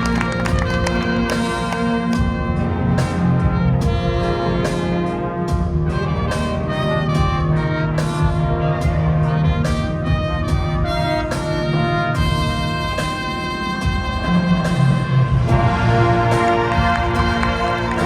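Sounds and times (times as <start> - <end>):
wind band playing brass music: 0.0 - 18.0.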